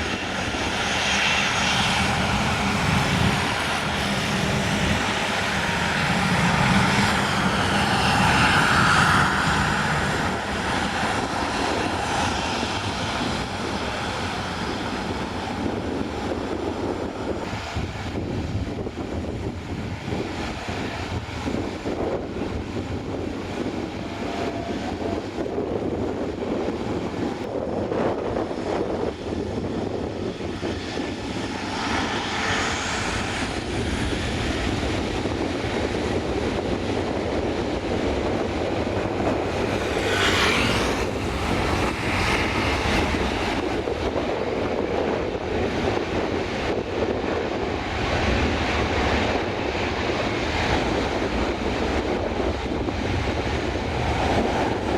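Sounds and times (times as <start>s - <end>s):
airliner engines passing: 0.0s - 54.9s
wind buffeting microphone: 0.0s - 54.9s.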